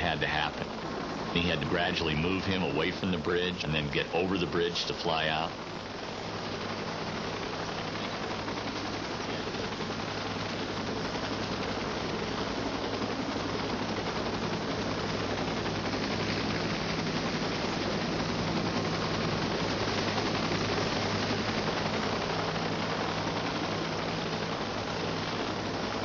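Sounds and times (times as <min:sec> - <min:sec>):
helicopter rotor chopping: 0:00.0 - 0:26.0.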